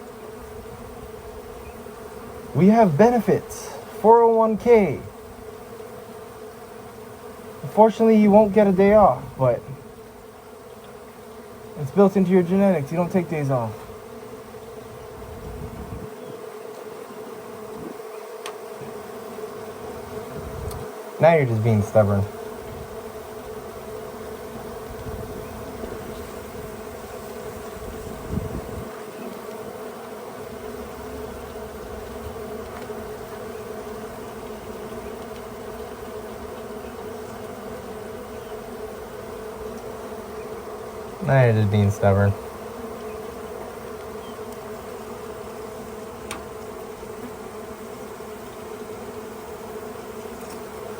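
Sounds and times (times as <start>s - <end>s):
bees buzzing: 0.0s - 50.9s.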